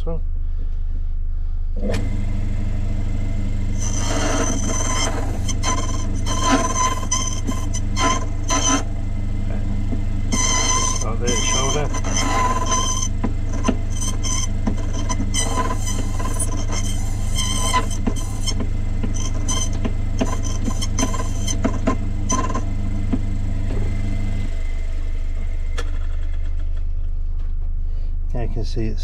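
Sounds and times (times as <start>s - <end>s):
machine motor humming: 1.8s - 26.6s.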